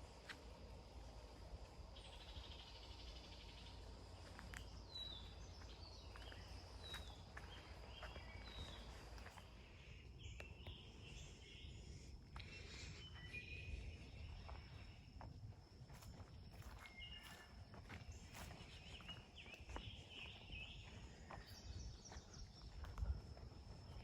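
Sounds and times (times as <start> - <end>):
high insect hum: 0.0 - 24.0.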